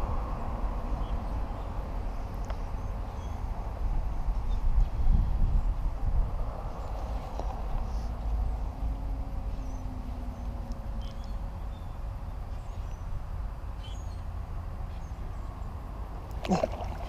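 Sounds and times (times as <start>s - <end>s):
traffic rumble and engine hum: 0.0s - 17.0s.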